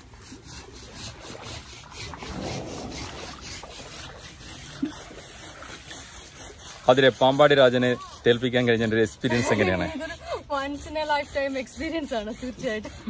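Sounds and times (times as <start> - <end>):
husk rasping over wet hide: 0.0 - 13.0.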